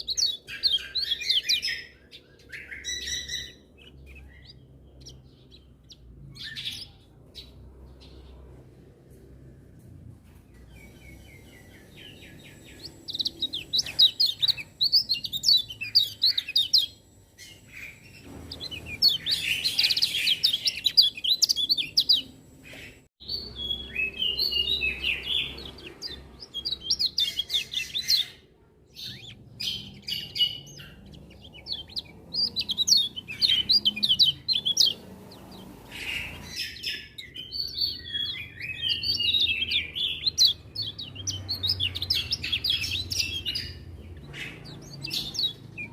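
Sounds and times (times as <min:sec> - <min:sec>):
bird twittering: 0:00.0 - 0:08.4, 0:10.7 - 0:45.9.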